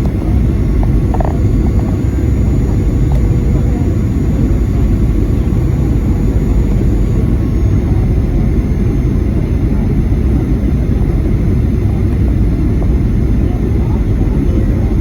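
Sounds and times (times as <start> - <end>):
airplane cabin rumble: 0.0 - 15.0
faint steady tones: 0.0 - 15.0.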